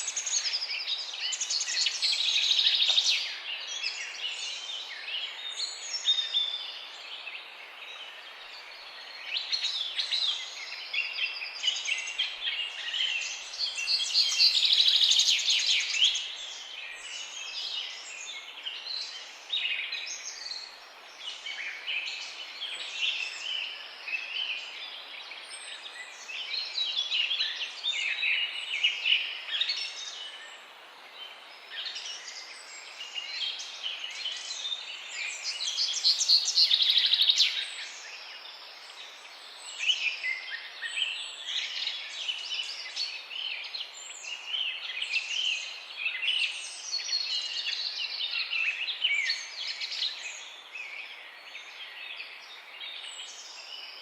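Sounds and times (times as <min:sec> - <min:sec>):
background hiss: 0:00.0 - 0:54.0
songbirds singing: 0:00.0 - 0:54.0.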